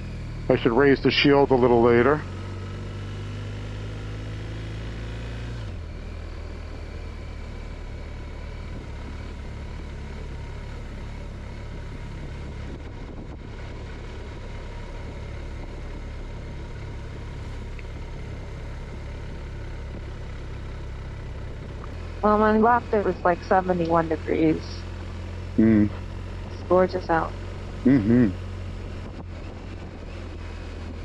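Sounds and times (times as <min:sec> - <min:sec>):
motorcycle engine running: 0:00.0 - 0:31.0
road and wind noise: 0:00.0 - 0:31.0.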